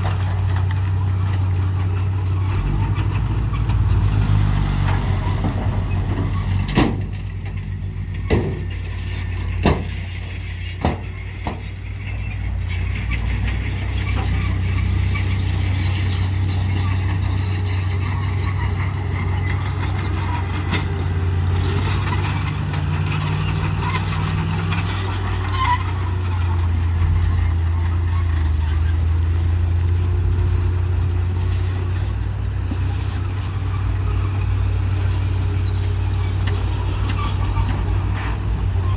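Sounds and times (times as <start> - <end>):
diesel machinery running: 0.0 - 38.9
faint high squealing: 0.3 - 38.9.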